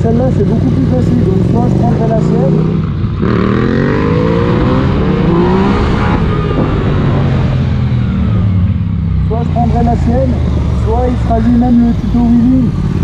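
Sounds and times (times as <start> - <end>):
motorcycle engine accelerating: 0.0 - 13.0
wind rumble: 1.1 - 13.0.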